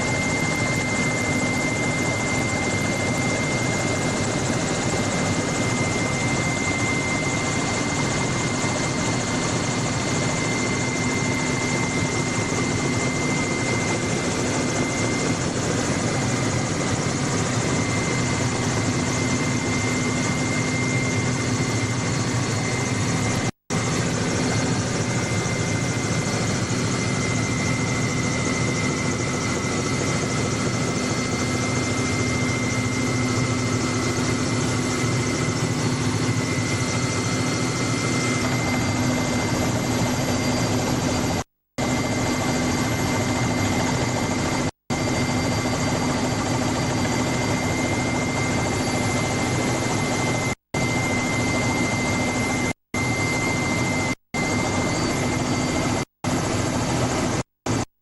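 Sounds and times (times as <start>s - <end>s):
helicopter cabin noise and whine: 0.0s - 58.0s.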